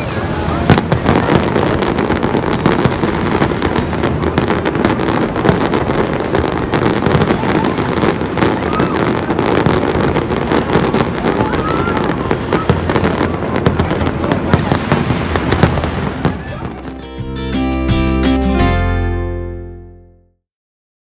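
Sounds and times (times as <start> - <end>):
fireworks bursting and crackling: 0.0 - 18.4.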